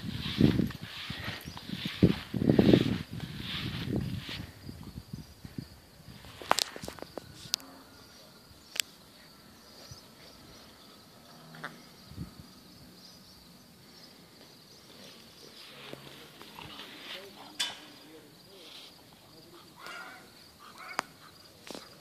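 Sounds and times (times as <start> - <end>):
faint insect buzz: 0.0 - 22.0.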